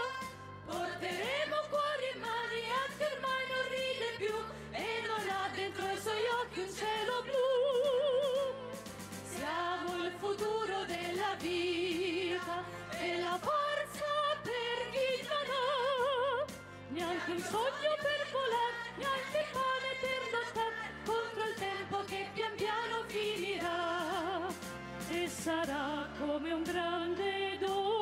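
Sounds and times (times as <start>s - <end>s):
low musical accompaniment: 0.0s - 28.0s.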